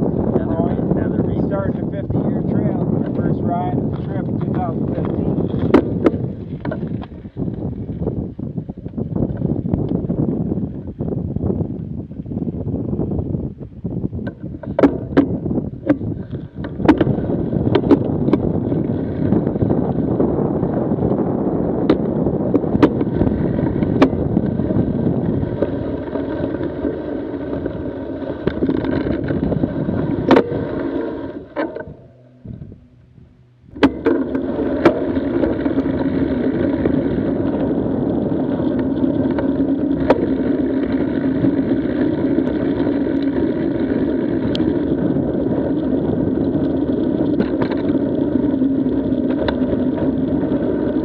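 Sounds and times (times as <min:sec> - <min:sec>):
bike knocking and rattling: 0:00.0 - 0:13.2, 0:14.0 - 0:51.0
bike tyres rumbling on dirt: 0:00.0 - 0:51.0
wind on microphone: 0:00.0 - 0:51.0.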